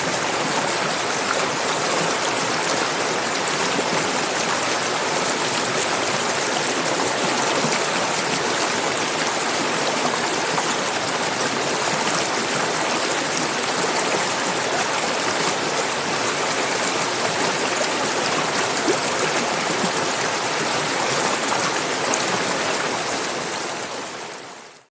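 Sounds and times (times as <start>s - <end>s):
river flowing over rocks: 0.0s - 24.9s.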